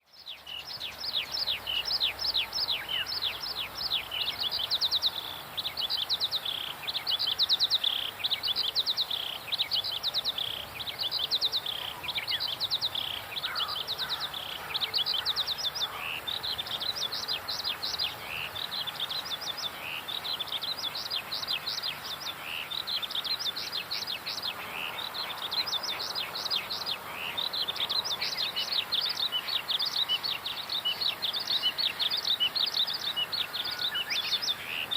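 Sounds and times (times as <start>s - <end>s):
faint steady hiss: 0.0s - 34.9s
small birds chirping: 0.0s - 34.9s.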